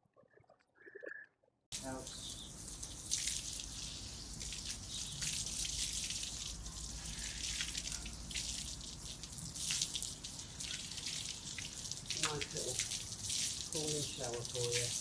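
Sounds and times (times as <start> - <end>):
water spraying on dog's coat: 1.8 - 15.0.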